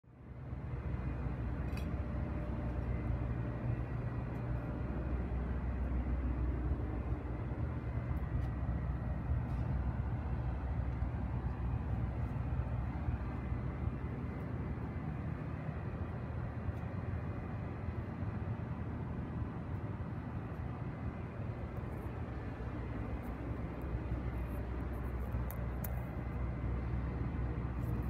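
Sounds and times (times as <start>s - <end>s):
city street rumble: 0.0s - 28.0s.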